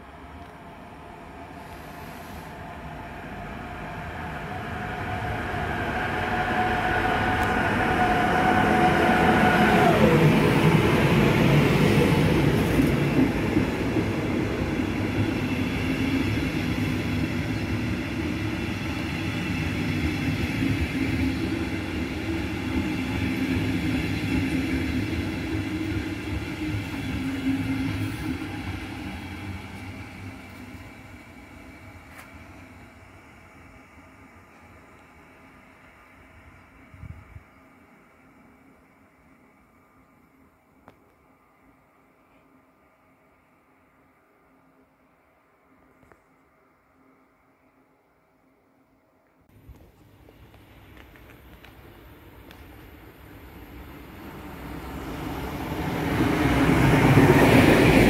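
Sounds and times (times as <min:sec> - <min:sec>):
electric locomotive whine: 0:00.0 - 0:58.0.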